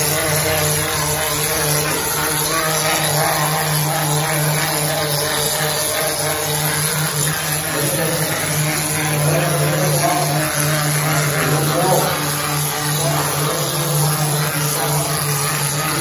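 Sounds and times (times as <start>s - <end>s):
mortar spraying machine running: 0.0s - 16.0s.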